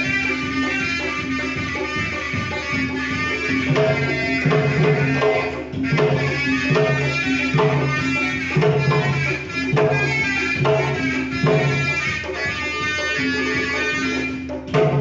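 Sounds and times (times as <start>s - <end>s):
hand drum pattern: 0.0s - 15.0s
shawm playing reedy melody: 0.0s - 15.0s.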